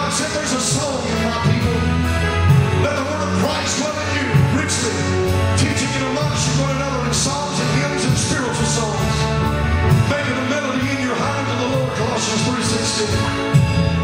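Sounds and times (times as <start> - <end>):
bass notes: 0.0 - 14.0
drum kit with cymbals: 0.0 - 14.0.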